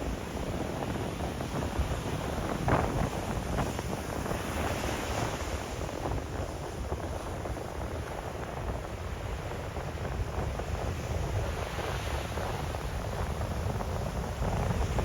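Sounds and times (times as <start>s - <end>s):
sea waves on shore: 0.0s - 15.0s
wind on microphone: 0.0s - 15.0s.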